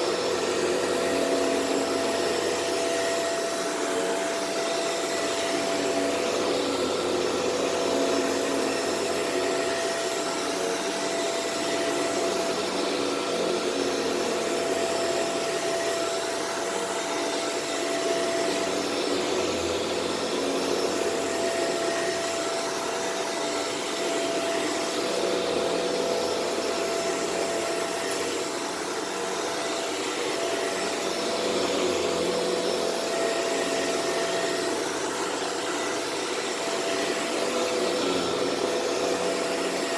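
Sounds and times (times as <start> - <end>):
upright vacuum running on carpet: 0.0 - 39.9.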